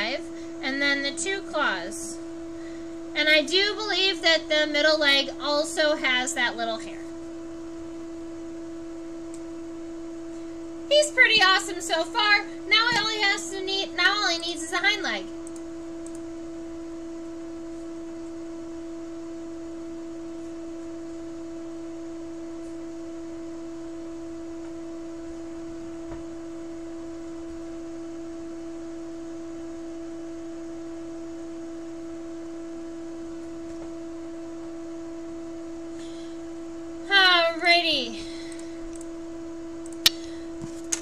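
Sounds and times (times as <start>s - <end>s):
steady electronic sine tone: 0.0s - 40.9s.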